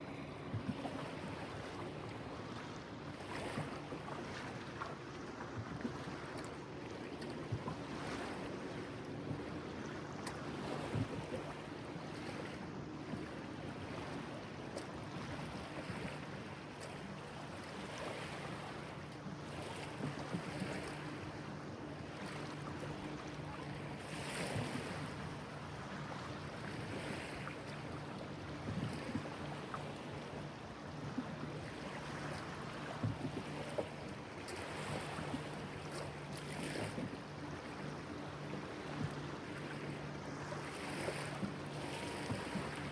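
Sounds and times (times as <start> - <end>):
river water lapping: 0.0 - 42.9
wind: 0.0 - 42.9.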